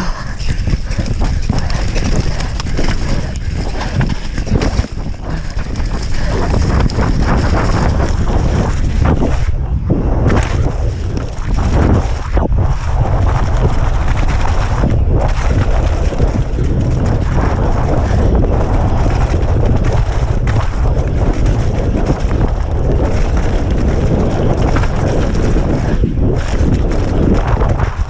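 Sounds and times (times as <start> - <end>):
wind buffeting microphone: 0.0 - 28.0
bike rattling over dirt: 0.4 - 28.0.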